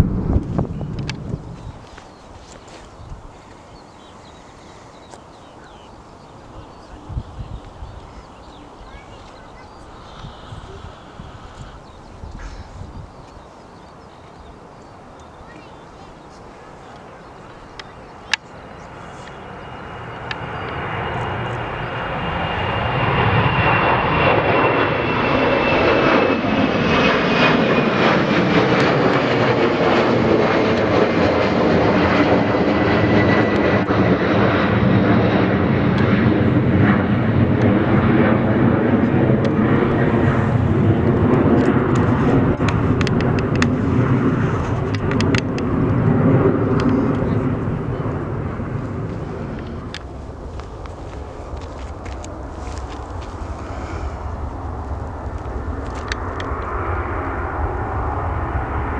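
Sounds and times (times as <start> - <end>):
jet engines roaring: 0.0 - 58.9.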